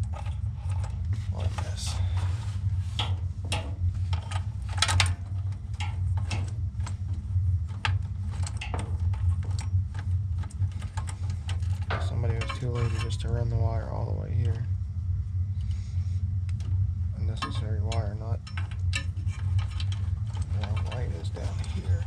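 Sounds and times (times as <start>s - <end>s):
wires being handled clicking: 0.0s - 1.6s, 2.9s - 13.6s, 16.4s - 22.0s
steady low hum: 0.0s - 22.0s.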